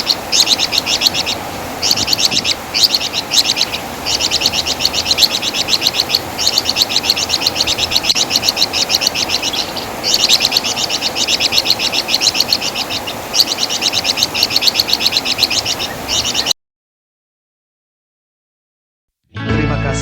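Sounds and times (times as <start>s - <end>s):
bird singing high chirps: 0.0s - 16.6s.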